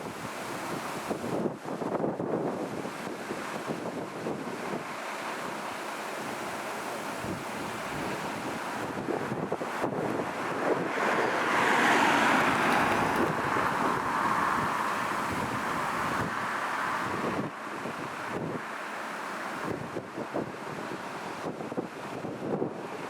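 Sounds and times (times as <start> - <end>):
wind buffeting microphone: 0.0 - 5.6, 6.2 - 18.8, 19.6 - 23.0.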